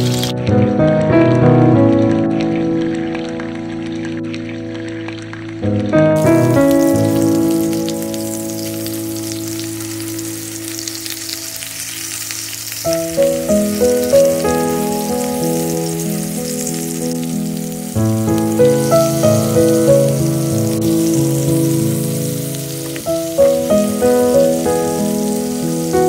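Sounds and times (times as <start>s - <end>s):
meat sizzling in oil: 0.0s - 1.0s, 1.8s - 26.0s
melodic background music: 0.0s - 26.0s.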